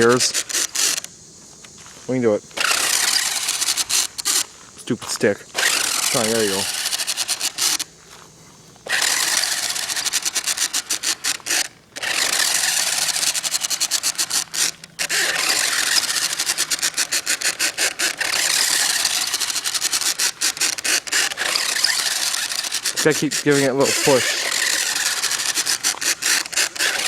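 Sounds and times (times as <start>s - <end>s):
toy car motor and gears whirring: 0.0s - 27.0s.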